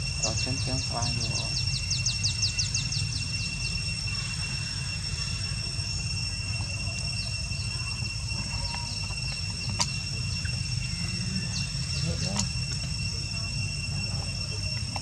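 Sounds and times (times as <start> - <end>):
constant low rumble: 0.0 - 15.0
high-pitched insect trill: 0.0 - 15.0.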